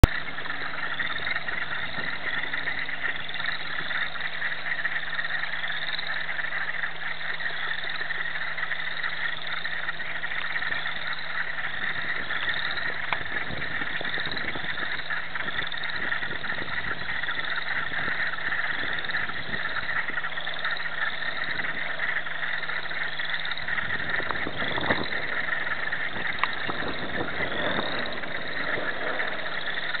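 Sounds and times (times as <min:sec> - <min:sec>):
chorus frogs trilling: 0:00.0 - 0:30.0
wood frogs calling: 0:00.0 - 0:30.0.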